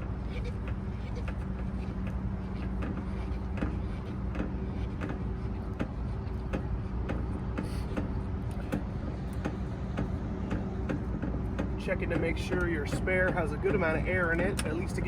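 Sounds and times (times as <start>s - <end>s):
vehicle engine idling: 0.0s - 15.0s
light clicks and taps: 0.6s - 15.0s.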